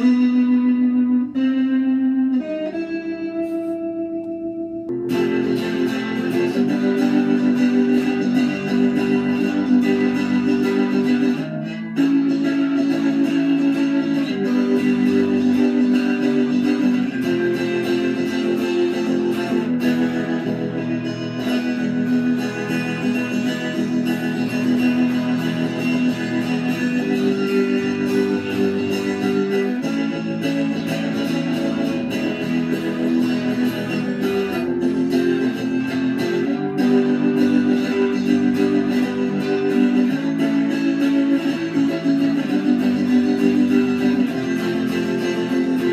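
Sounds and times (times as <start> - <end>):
electric guitar playing: 0.0 - 45.9.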